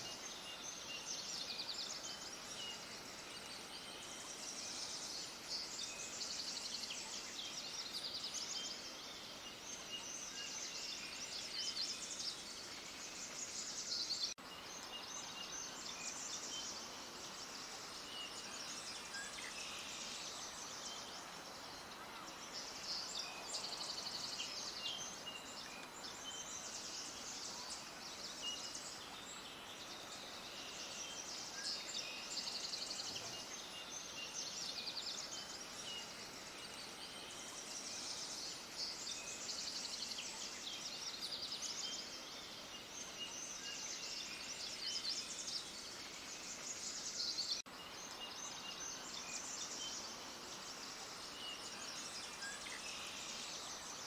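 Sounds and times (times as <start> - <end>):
faint background hiss: 0.0 - 54.0
small birds chirping: 0.0 - 54.0.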